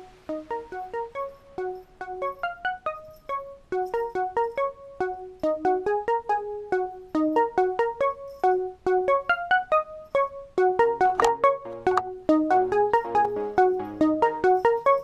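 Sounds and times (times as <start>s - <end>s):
light keyboard melody: 0.0s - 15.0s.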